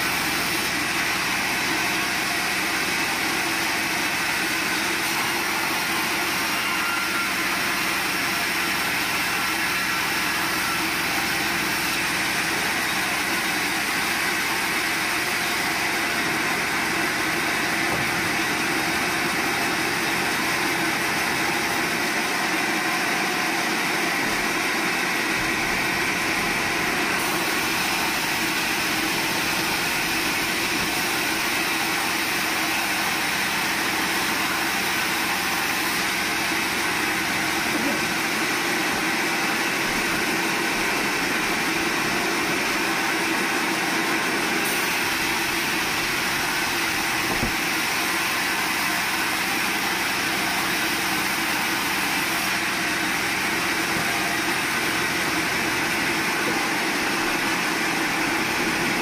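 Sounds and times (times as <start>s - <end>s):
band saw running: 0.0s - 59.0s.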